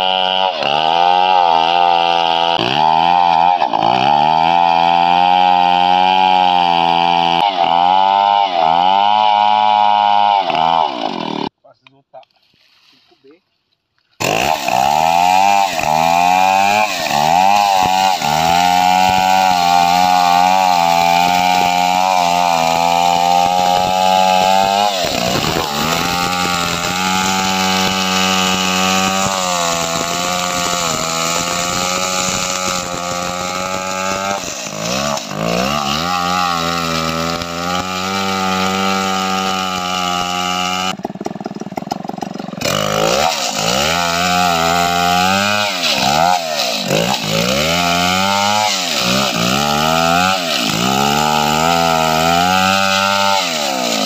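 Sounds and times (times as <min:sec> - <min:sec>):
chainsaw cutting log: 0:00.0 - 0:11.6, 0:14.2 - 0:54.0.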